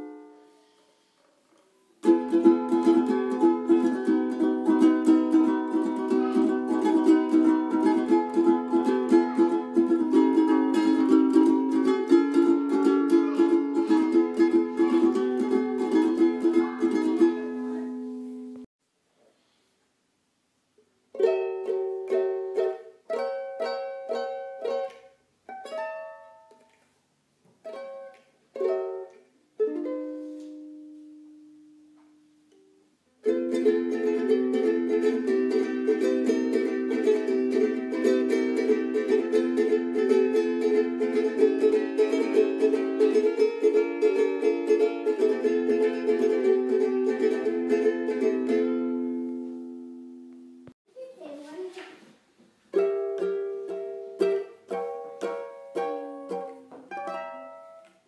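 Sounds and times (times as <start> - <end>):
ukulele strumming: 0.0 - 0.6, 2.0 - 18.7, 21.1 - 26.8, 27.6 - 50.8, 52.7 - 58.0.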